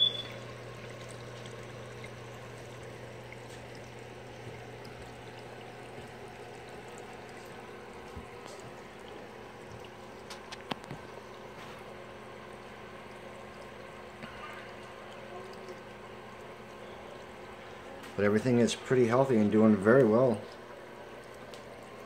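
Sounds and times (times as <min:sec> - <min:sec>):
water pouring and trickling: 0:00.0 - 0:22.0.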